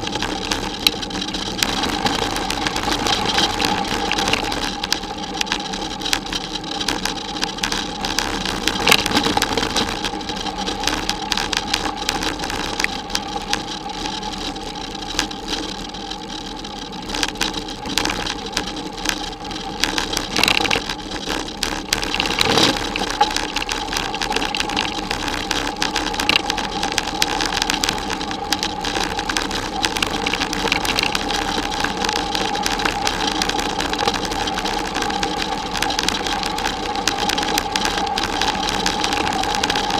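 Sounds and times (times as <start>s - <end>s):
bicycle rattling over gravel: 0.0s - 39.9s
steady hum: 0.0s - 39.9s.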